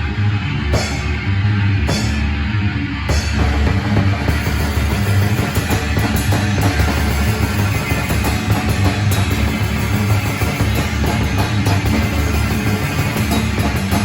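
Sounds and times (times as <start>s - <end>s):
electric guitar: 0.0s - 14.0s
drum kit playing: 0.8s - 1.3s, 1.9s - 2.4s, 3.1s - 14.0s.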